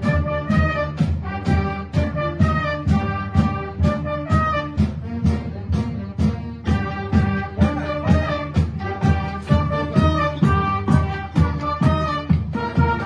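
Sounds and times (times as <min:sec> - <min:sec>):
drums beating: 0:00.0 - 0:13.0
horns playing a tune: 0:00.0 - 0:13.0.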